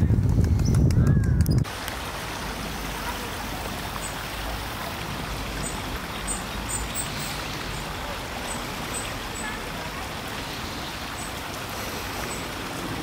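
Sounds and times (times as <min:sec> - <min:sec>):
stream trickling over rocks: 0:01.6 - 0:13.0.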